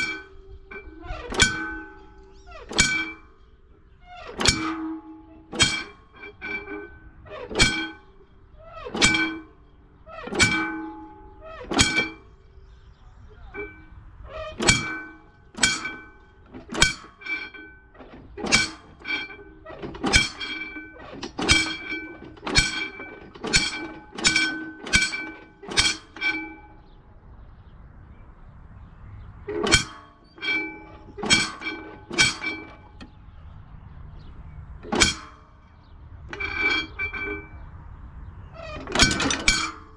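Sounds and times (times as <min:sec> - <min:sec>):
railway crossing bell clanging: 0:00.0 - 0:03.8, 0:04.4 - 0:27.0, 0:29.4 - 0:39.9.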